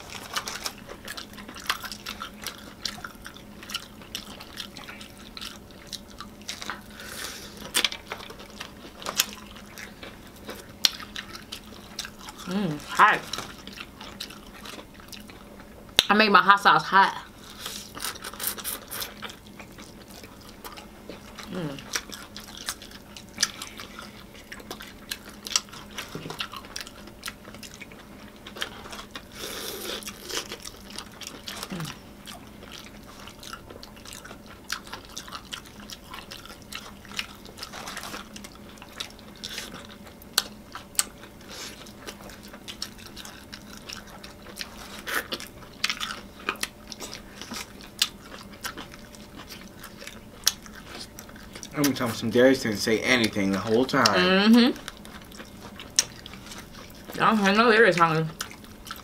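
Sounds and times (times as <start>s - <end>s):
wet chewing and lip smacks: 0.0s - 16.1s, 17.5s - 52.1s, 54.8s - 57.2s, 58.3s - 59.0s.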